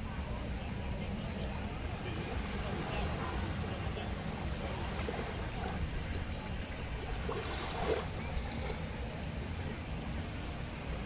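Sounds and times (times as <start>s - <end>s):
small waves lapping on sandy shore: 0.0s - 11.0s.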